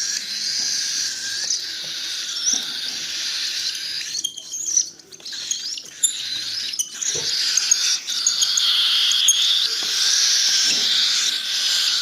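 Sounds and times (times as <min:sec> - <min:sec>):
bird chicks begging calls: 0:00.0 - 0:12.0.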